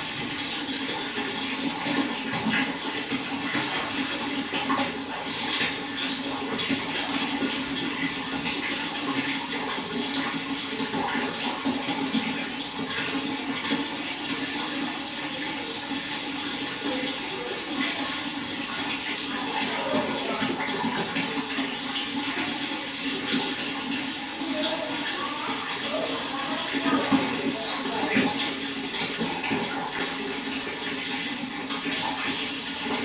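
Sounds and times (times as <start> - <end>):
running water splashing: 0.0 - 33.0.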